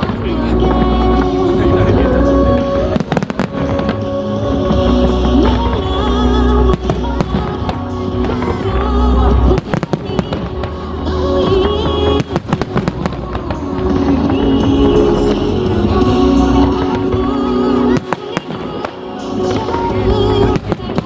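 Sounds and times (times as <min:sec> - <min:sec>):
fireworks booming and crackling: 0:00.0 - 0:21.0
loud music: 0:00.0 - 0:21.0.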